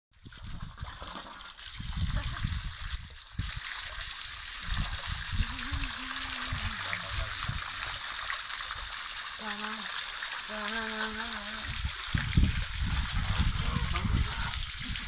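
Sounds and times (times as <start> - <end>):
hose spraying water into pool: 0.2 - 15.0
water splashing: 0.2 - 15.0.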